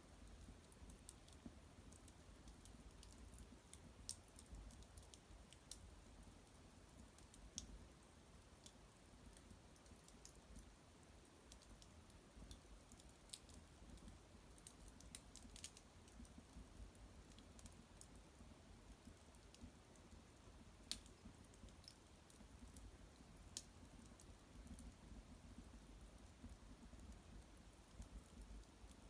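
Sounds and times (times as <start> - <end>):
small wood fire crackling: 0.0 - 29.0
sharp fire snaps: 0.1 - 29.0.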